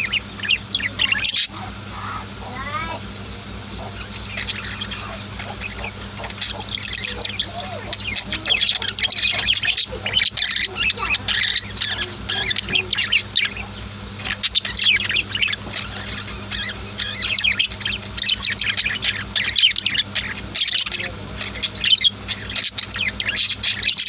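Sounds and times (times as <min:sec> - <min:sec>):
budgies and lovebirds chirping: 0:00.0 - 0:24.0.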